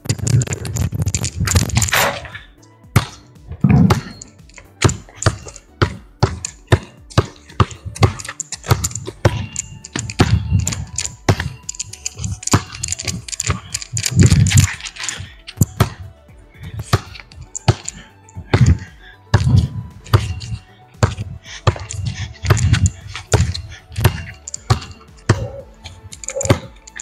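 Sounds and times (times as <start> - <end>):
background music: 0.0 - 27.0
basketball bouncing on concrete: 0.0 - 27.0.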